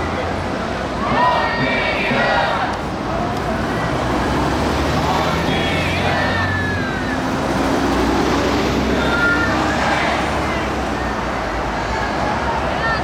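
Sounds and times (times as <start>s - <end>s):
faint voices: 0.0s - 13.0s
road traffic rumble: 0.0s - 13.0s.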